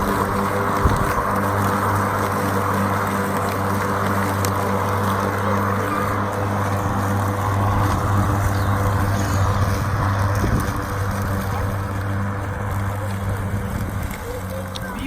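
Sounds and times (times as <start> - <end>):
electric lawn mower cutting grass: 0.0 - 15.0.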